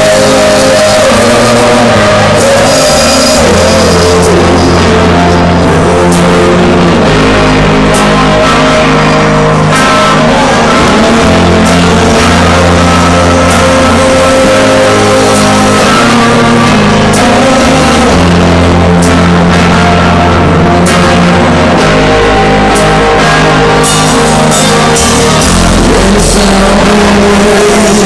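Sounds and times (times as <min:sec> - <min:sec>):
rock band playing loudly: 0:00.0 - 0:28.0.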